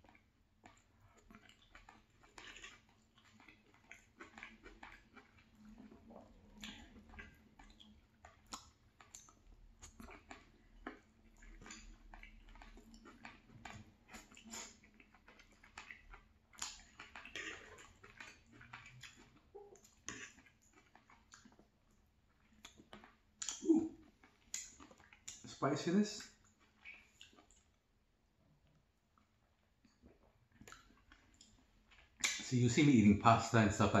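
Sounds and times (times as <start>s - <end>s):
chewing crunchy food: 0.0s - 33.0s.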